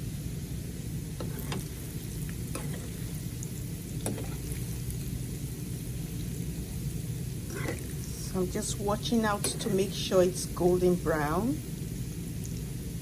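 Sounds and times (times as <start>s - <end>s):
dough deep-frying in oil: 0.0s - 13.0s.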